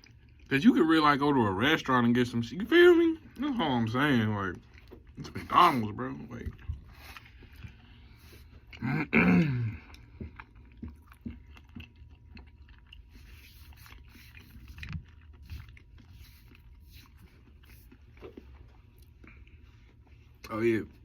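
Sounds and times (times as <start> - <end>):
low steady hum: 0.0 - 21.0
person chewing food: 0.0 - 21.0.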